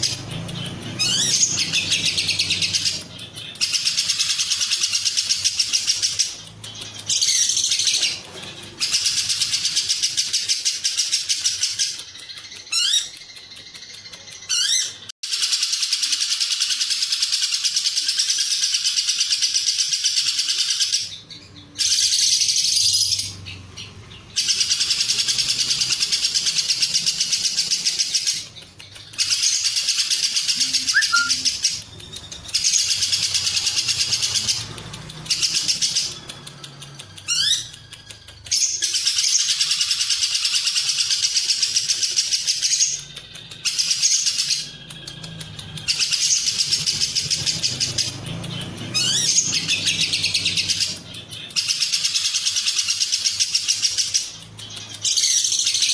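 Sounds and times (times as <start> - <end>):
bird chattering trill: 0.0 - 55.9.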